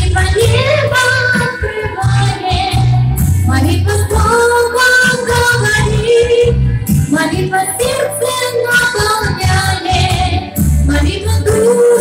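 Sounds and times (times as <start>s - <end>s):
backing track with bass beat: 0.0s - 12.0s
woman singing into a microphone: 0.0s - 12.0s.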